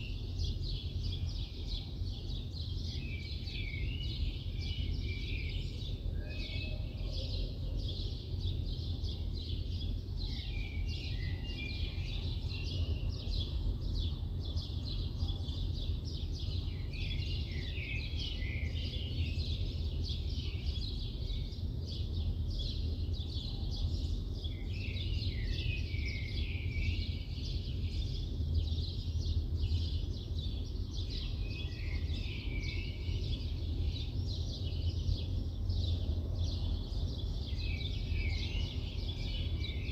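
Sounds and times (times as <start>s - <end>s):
low city rumble: 0.0s - 39.9s
small birds chirping: 0.0s - 39.9s.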